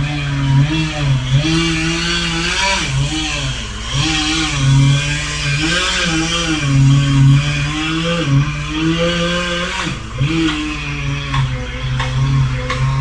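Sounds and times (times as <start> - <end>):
power equipment engine running: 0.0 - 13.0.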